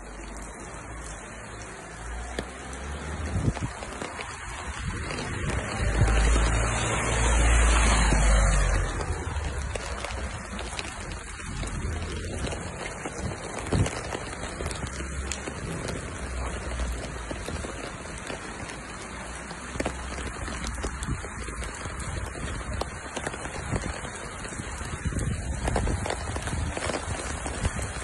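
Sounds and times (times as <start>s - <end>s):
rain hissing: 0.0s - 28.0s
water running over street: 0.0s - 28.0s.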